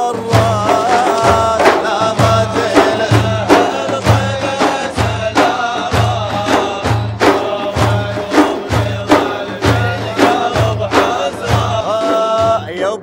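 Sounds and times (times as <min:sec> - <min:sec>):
frame drums playing: 0:00.0 - 0:13.0
voices singing drawn-out tone: 0:00.0 - 0:13.0.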